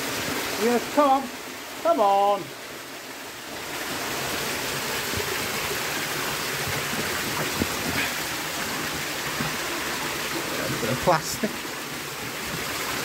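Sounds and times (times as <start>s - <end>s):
faint water splashes: 0.0s - 13.0s
shallow water rushing: 0.0s - 13.0s.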